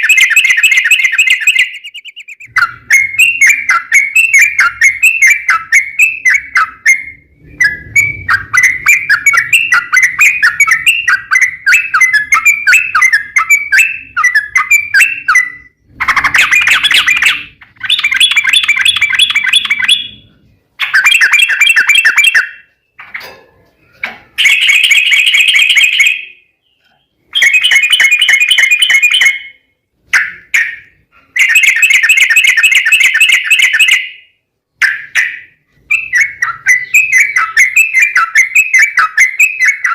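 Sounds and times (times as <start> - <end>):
bird chattering and trilling: 0.0 - 39.9.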